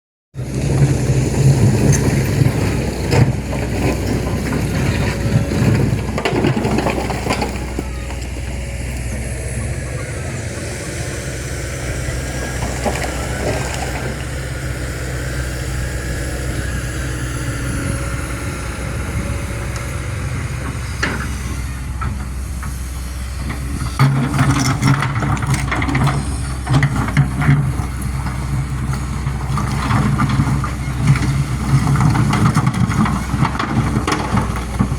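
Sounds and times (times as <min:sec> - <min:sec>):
excavator diesel engine running: 0:00.4 - 0:34.9.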